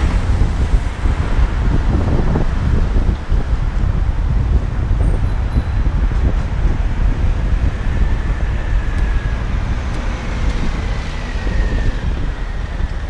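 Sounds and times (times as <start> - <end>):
city traffic: 0.0 - 13.0
wind rumbling on microphone: 0.0 - 13.0.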